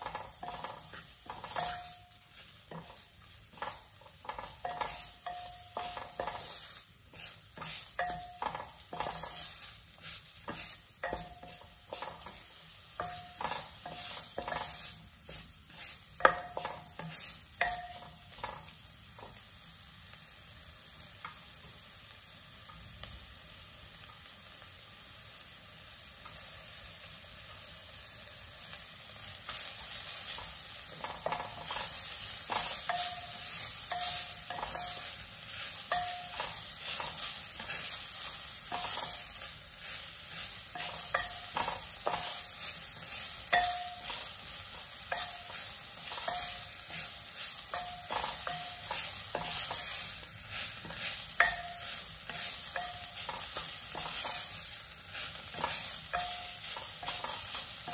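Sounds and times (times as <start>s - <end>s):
wooden spatula scraping a pot: 0.0s - 19.4s, 29.5s - 57.9s
paste sizzling in oil: 0.0s - 57.9s.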